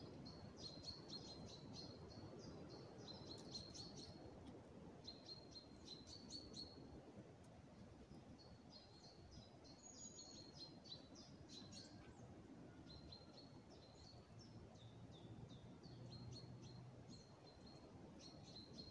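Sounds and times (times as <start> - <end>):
faint high bird chirps: 0.0 - 4.3, 5.0 - 6.9, 8.4 - 18.9
low background hiss: 0.0 - 18.9.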